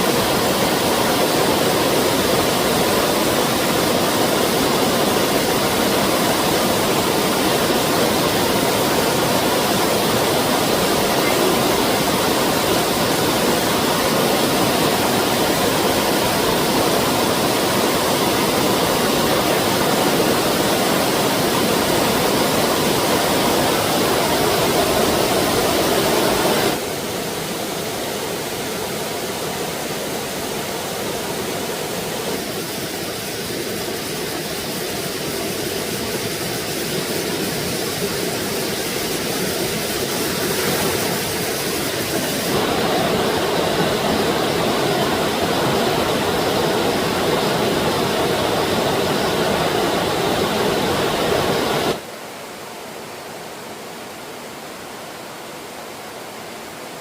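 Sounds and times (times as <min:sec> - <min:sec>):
flowing stream water: 0:00.0 - 0:57.0.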